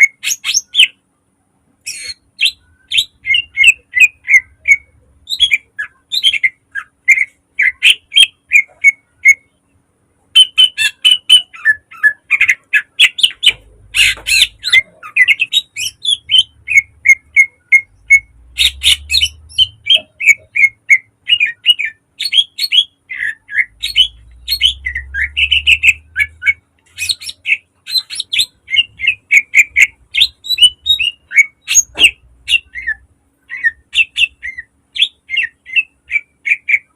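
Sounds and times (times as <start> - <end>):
bird chirping and whistling: 0.0 - 1.0, 1.9 - 9.5, 10.4 - 36.9.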